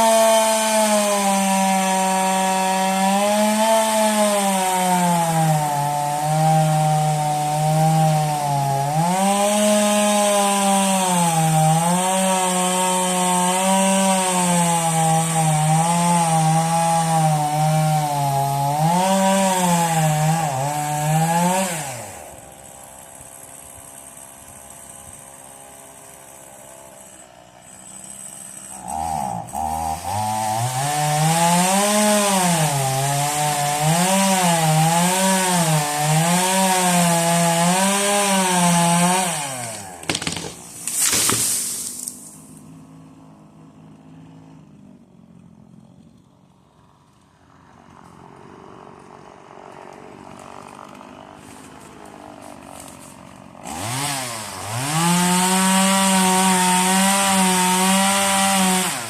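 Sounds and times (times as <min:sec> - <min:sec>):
chainsaw cutting wood: 0:00.0 - 0:46.4, 0:47.0 - 0:59.0.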